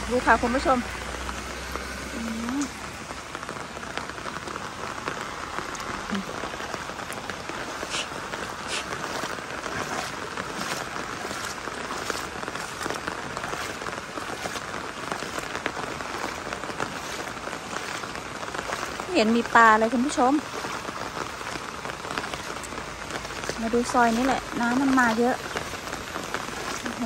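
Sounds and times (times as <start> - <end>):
heavy rain on flooded road: 0.0 - 27.0
raindrop taps: 0.1 - 27.0.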